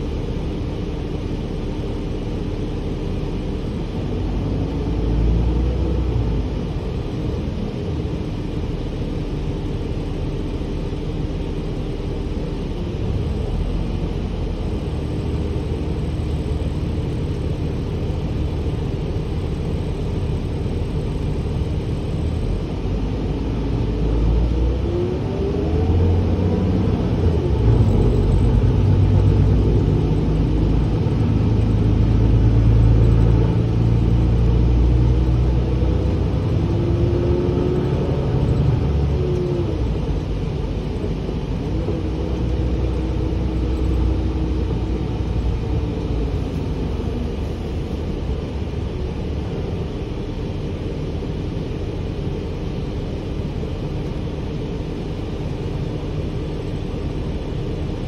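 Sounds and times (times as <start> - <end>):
bus engine and road rumble: 0.0 - 58.0
drivetrain whine: 0.0 - 58.0.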